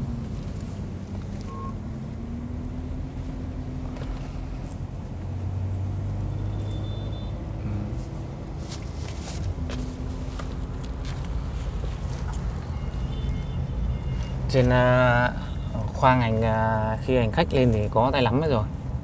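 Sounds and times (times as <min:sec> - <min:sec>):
engine and road hum in car: 0:00.0 - 0:19.0.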